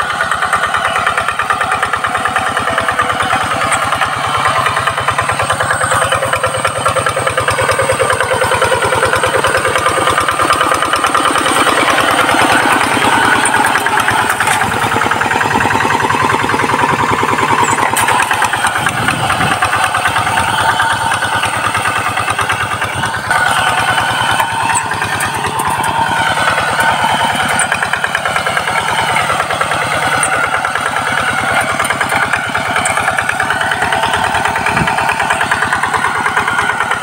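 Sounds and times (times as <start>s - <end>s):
diesel engine chugging: 0.0s - 37.0s.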